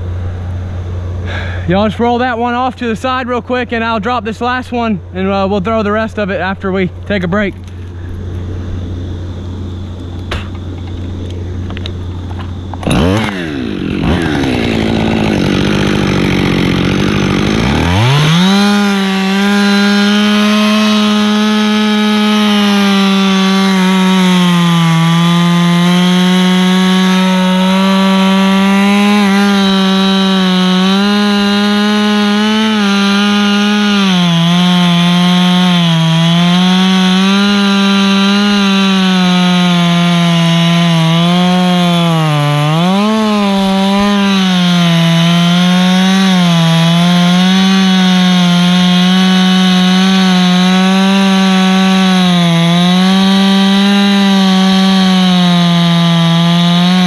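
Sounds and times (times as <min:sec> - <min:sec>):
chainsaw cutting through wood: 0:01.2 - 0:02.3, 0:07.7 - 0:57.0.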